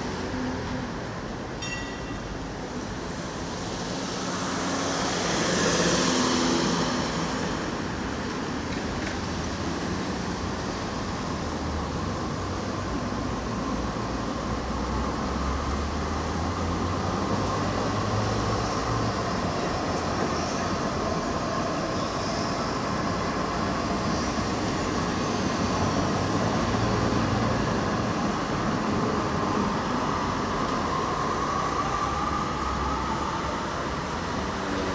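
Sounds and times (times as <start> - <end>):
tram rolling on rails: 0.0 - 34.9.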